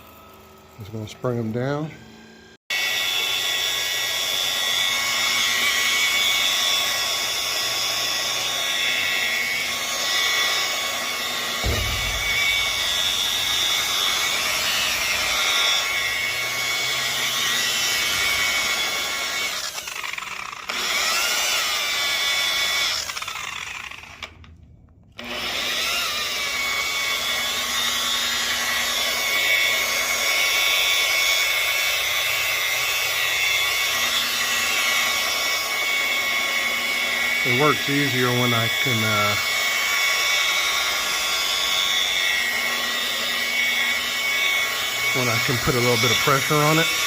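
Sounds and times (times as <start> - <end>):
carpet cleaner motor whining: 0.0 - 47.0.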